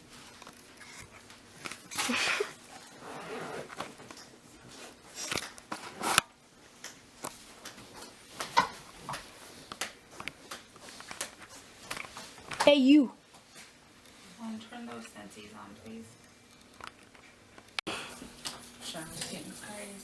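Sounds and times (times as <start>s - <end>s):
rustling and handling noise: 0.0s - 20.0s.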